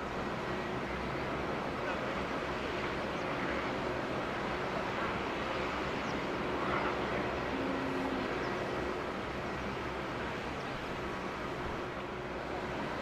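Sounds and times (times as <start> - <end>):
distant jet engines: 0.0 - 13.0.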